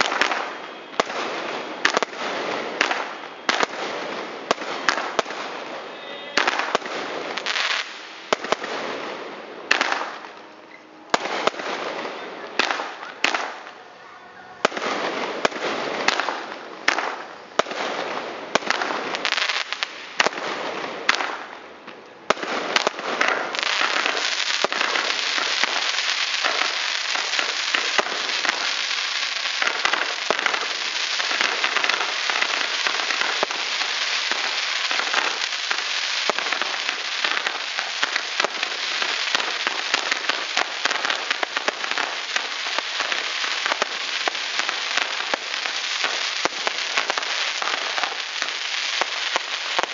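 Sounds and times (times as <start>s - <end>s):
fireworks bangs: 0.0s - 49.9s
fireworks crackling: 0.0s - 49.9s.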